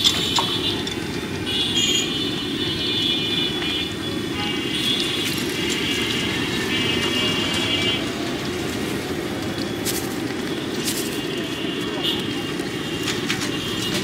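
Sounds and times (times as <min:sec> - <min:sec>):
garlic deep-frying in oil: 0:00.0 - 0:14.0.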